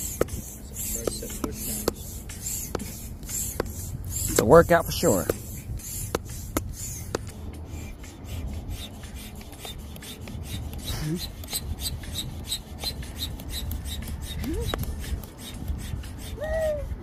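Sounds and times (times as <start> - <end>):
hand air pump strokes: 0.0 - 17.0.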